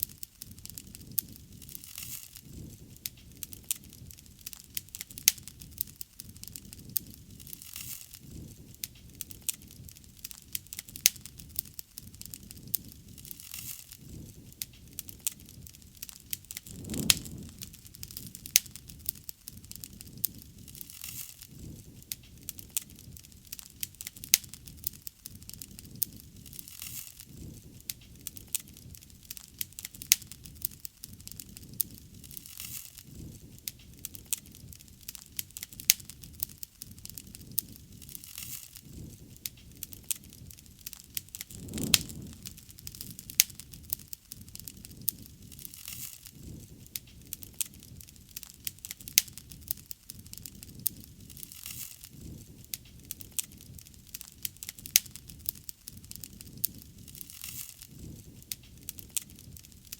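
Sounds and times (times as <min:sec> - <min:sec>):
rush of flame: 0:00.0 - 0:35.0, 0:35.8 - 0:59.9
bonfire pops and snaps: 0:00.0 - 0:59.9.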